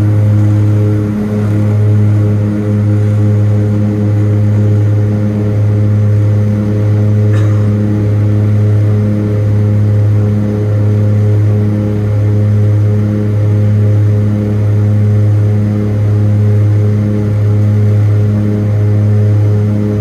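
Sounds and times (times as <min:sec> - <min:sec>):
turboprop cabin drone: 0:00.0 - 0:20.0.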